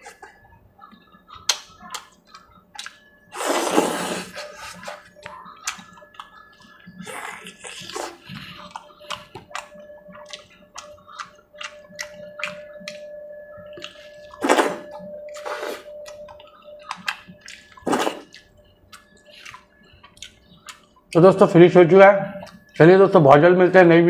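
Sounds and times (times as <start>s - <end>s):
fingers squelching food: 0.8s - 21.3s.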